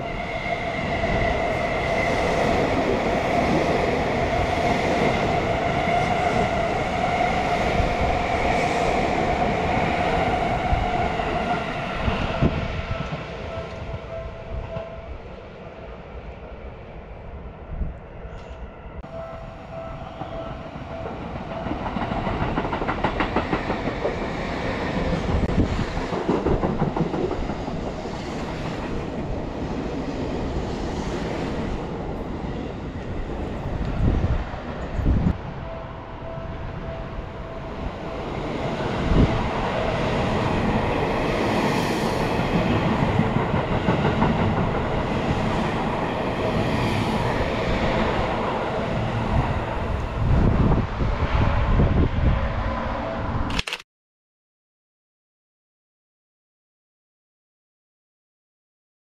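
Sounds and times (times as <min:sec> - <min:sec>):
electric train passing: 0:00.0 - 0:53.5.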